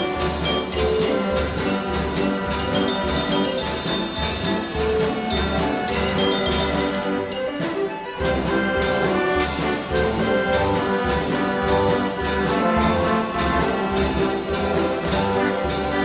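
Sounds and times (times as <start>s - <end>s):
steady drum beat: 0.0s - 7.6s, 8.2s - 16.0s
carousel band organ playing: 0.0s - 16.0s.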